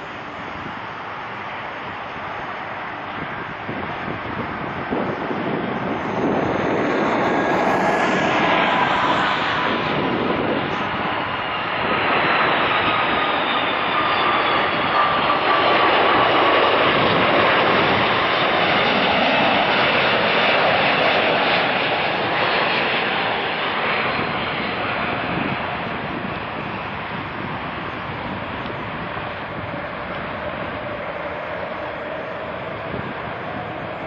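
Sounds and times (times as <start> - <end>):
jet airliner flying past: 0.0 - 34.0.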